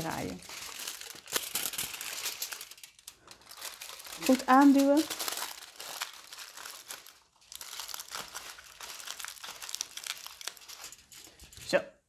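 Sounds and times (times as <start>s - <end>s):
aluminium foil crinkling: 0.0s - 11.7s.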